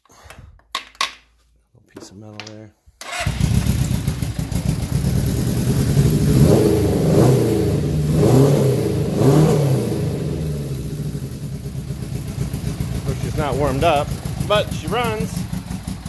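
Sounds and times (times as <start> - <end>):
motorcycle engine revving: 3.1 - 16.0.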